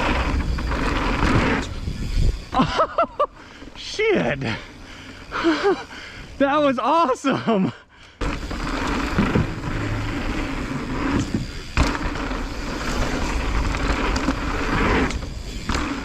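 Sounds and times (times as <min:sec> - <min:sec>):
bike rattling over bumps: 0:00.0 - 0:06.7, 0:08.2 - 0:16.0
tyre and trail noise: 0:00.0 - 0:16.0.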